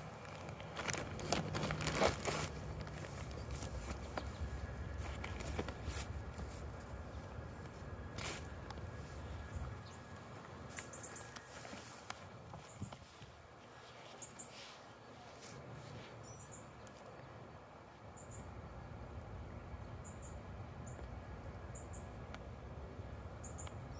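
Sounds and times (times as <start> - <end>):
steady outdoor hiss: 0.0 - 23.9.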